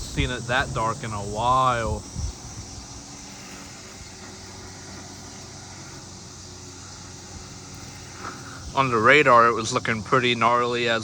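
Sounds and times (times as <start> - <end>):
high insect drone: 0.0 - 11.0
low mechanical hum: 0.0 - 11.0.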